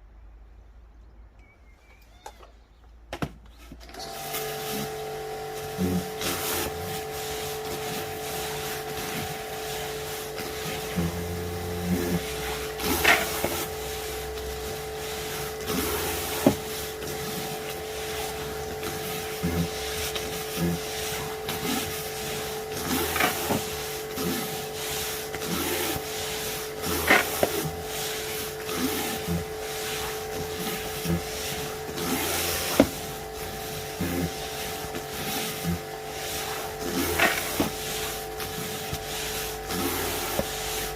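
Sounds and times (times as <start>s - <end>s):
pressure washer motor whine: 3.8s - 40.9s
water jet hissing: 4.3s - 40.9s.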